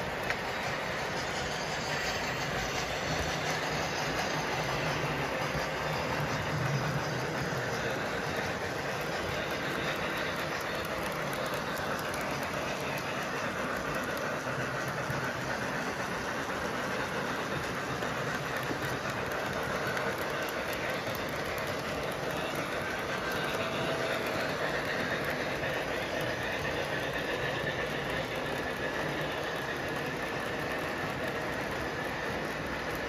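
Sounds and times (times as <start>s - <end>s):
model steam locomotive running: 0.0s - 33.0s.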